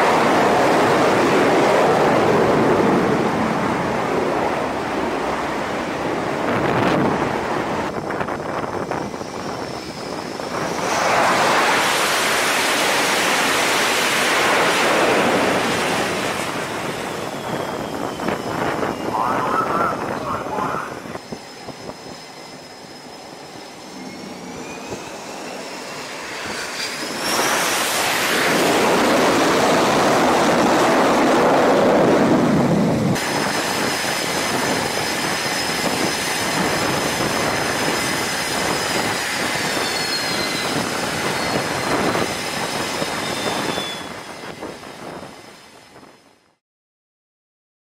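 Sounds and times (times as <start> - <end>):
jet engine turbine whine: 0.0 - 46.6
loud jet engine noise: 0.0 - 46.6.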